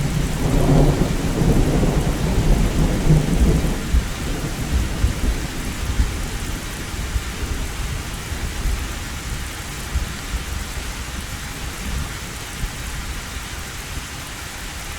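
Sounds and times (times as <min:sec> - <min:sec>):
low thunder rumbling: 0:00.0 - 0:13.1
heavy rain on a tin roof: 0:00.0 - 0:14.9.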